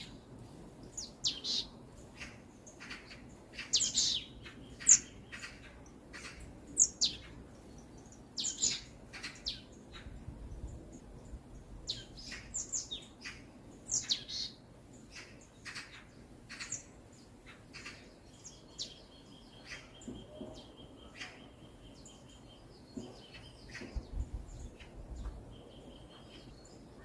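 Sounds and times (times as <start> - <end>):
birds chirping: 0.8 - 27.0.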